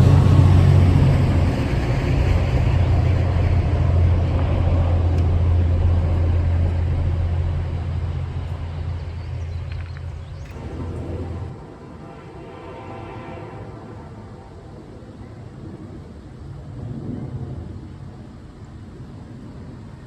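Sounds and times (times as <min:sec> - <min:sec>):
diesel train passing: 0:00.0 - 0:20.0.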